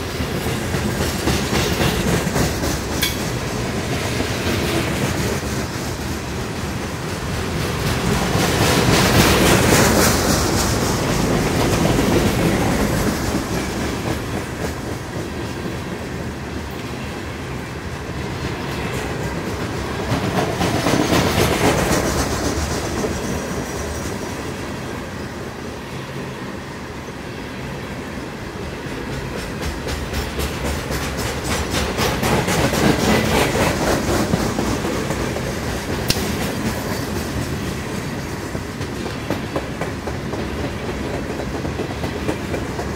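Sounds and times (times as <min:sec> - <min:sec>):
clickety-clack over rail joints: 0:00.0 - 0:25.4, 0:27.6 - 0:42.9
train wheels rumbling on rail: 0:00.0 - 0:42.9.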